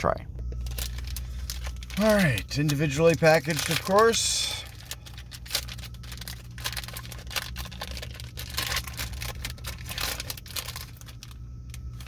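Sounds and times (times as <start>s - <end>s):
plastic wrapper crinkling: 0.4s - 12.0s.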